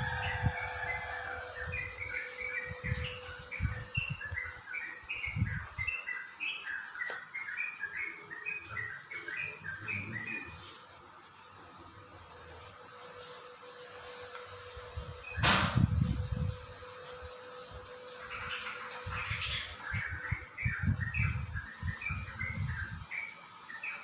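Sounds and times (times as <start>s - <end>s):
birds chirping: 0.0s - 13.1s, 14.7s - 24.0s.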